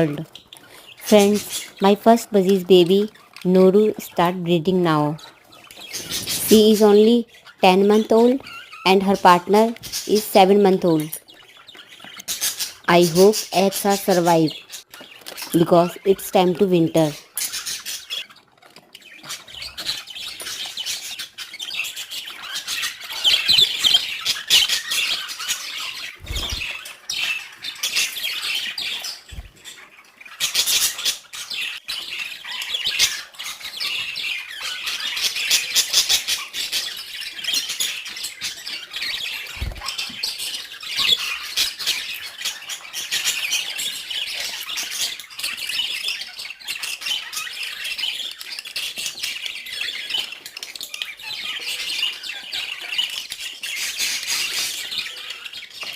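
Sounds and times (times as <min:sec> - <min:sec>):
budgerigars chattering: 0:00.0 - 0:55.9.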